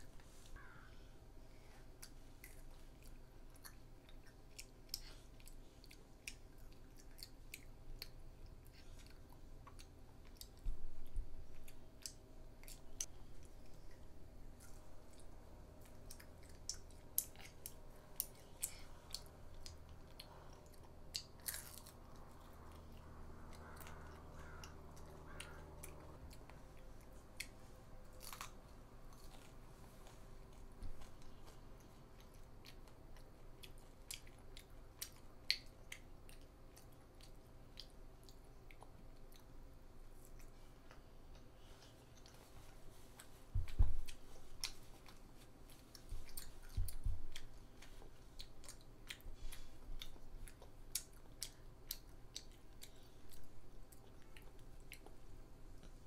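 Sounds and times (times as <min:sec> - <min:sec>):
girl chewing crispy food: 0:00.0 - 0:56.0.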